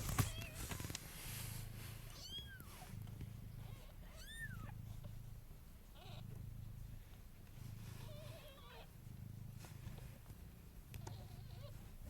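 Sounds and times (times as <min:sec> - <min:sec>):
cats purring: 0:00.0 - 0:12.0.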